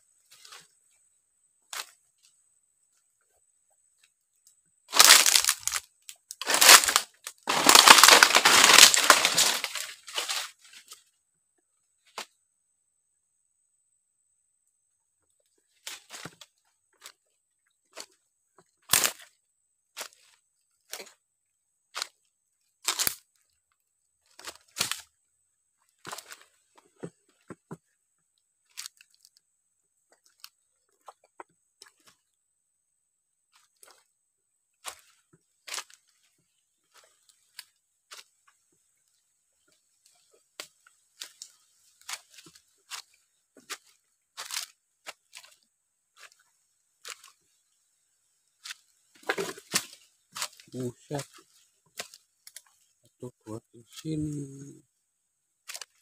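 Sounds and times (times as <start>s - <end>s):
dry leaves and twigs crunching: 0.2s - 11.2s, 15.5s - 54.8s, 55.5s - 56.0s.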